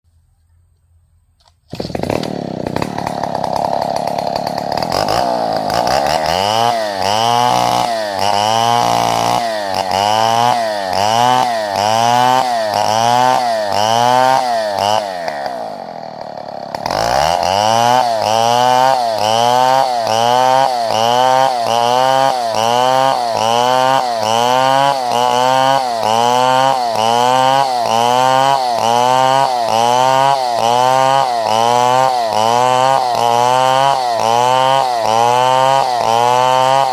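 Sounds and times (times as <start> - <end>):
chainsaw running at high revs: 1.7 - 36.9.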